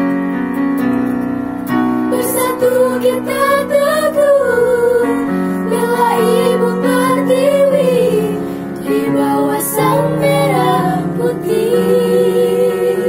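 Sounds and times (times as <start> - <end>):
electronic keyboard chords: 0.0 - 13.0
girls' choir singing: 2.1 - 13.0.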